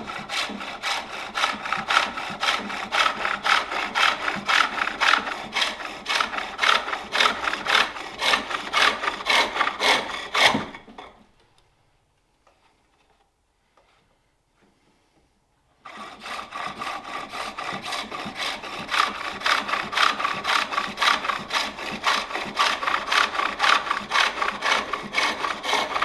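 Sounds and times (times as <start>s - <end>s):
lathe tool scraping wood: 0.0s - 11.0s, 15.8s - 26.0s.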